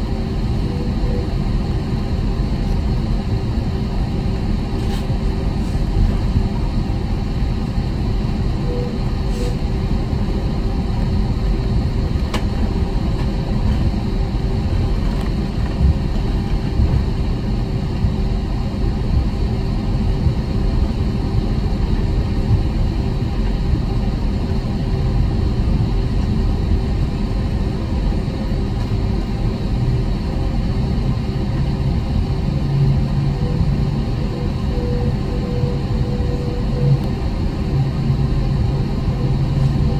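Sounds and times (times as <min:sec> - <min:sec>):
airplane cabin rumble while taxiing: 0:00.0 - 0:39.9.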